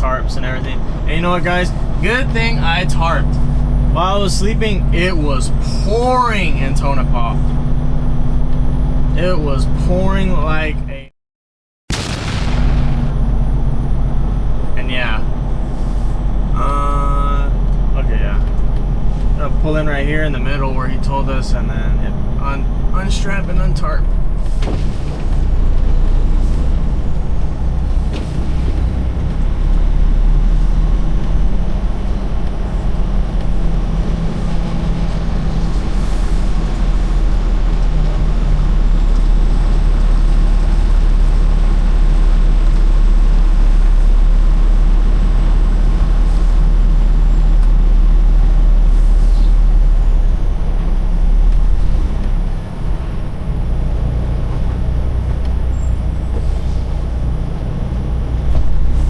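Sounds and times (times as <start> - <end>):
diesel truck engine rumbling: 0.0 - 11.1, 11.9 - 59.0.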